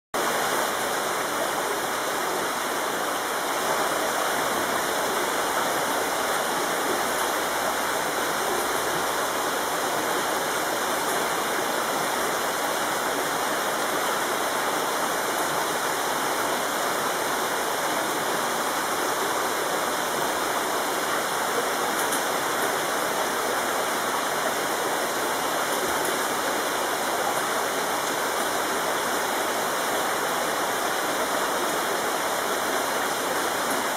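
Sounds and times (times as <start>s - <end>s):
running water rushing: 0.2s - 33.9s.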